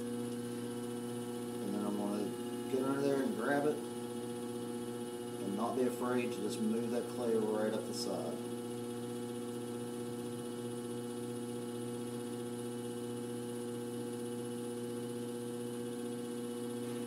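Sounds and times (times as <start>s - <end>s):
potter's wheel humming: 0.0s - 17.0s.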